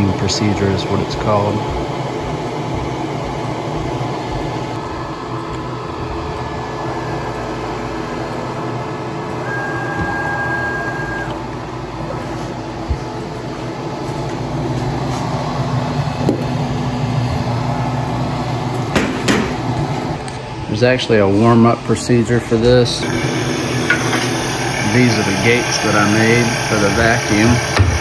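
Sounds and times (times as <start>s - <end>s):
router axis motors running: 0.0s - 18.8s, 22.4s - 28.0s
steady machine hum: 0.0s - 28.0s
thin steady whine: 0.0s - 28.0s.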